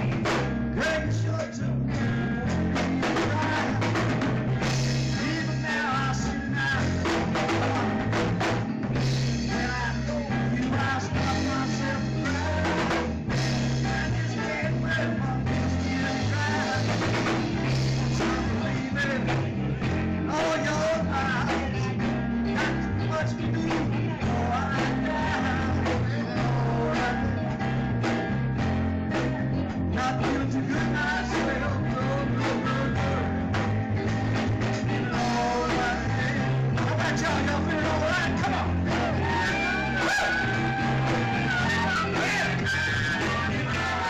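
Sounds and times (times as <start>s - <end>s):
man singing into a microphone: 0.0s - 8.4s, 9.0s - 28.0s, 29.1s - 44.0s
live rock band playing: 0.0s - 44.0s.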